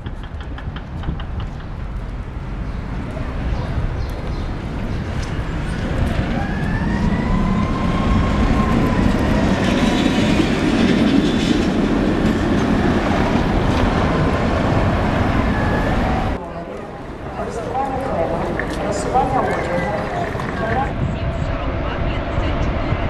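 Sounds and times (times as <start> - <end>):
tram wheels rumbling on rails: 0.0 - 23.0.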